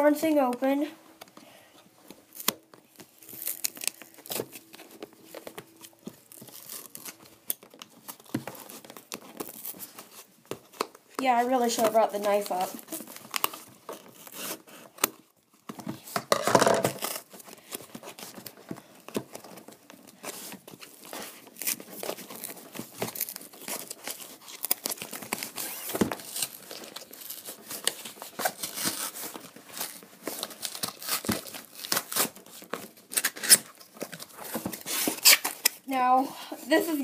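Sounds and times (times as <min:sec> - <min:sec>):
packing material crinkling: 0:00.0 - 0:37.0
cardboard package tearing: 0:02.2 - 0:35.9.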